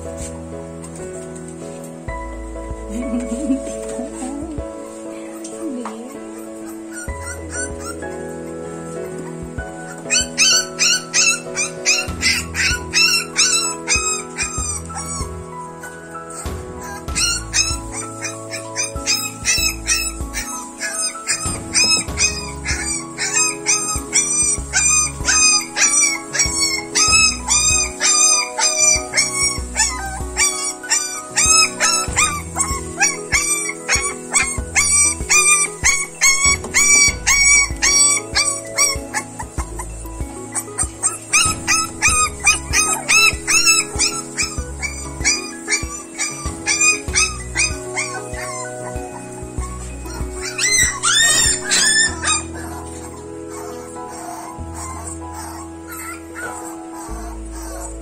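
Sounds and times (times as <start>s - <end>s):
background music with pulsing beat: 0.0s - 58.0s
puppies whimpering and yelping: 2.1s - 58.0s.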